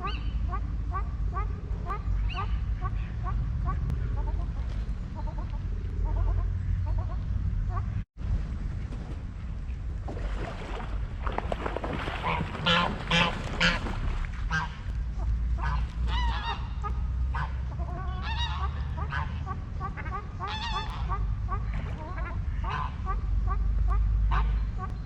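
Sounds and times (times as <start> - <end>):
waterfowl calling: 0.0 - 8.0, 11.9 - 25.0
low rumble: 0.0 - 25.0.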